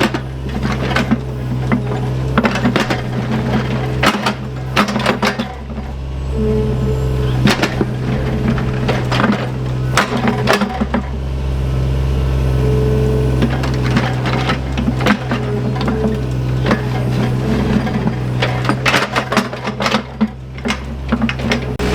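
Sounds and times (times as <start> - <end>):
sharp knocks and clanks: 0.0 - 6.0, 7.3 - 11.2, 13.4 - 21.9
diesel engine running: 0.0 - 21.9.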